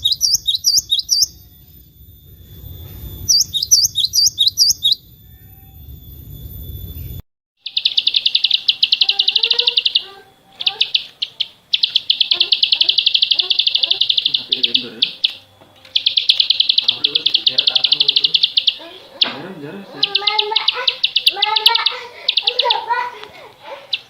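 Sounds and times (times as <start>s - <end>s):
faint bird chirping: 0.0s - 24.0s
songbird buzzy trill: 0.0s - 24.0s.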